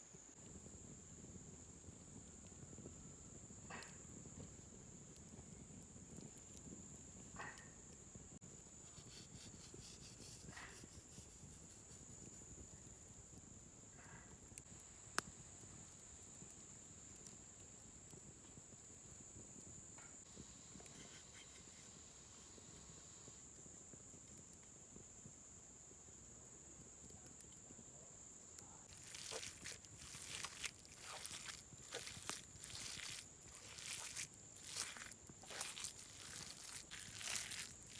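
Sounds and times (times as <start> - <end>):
insects droning: 0.0 - 37.9.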